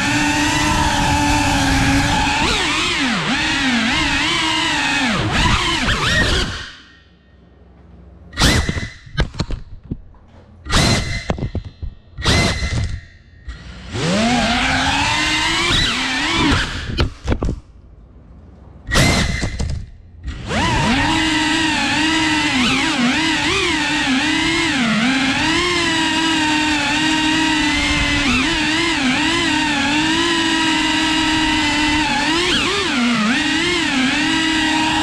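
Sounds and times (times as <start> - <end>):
drone motors whining: 0.0 - 7.4, 8.3 - 10.0, 10.6 - 17.6, 18.8 - 35.0.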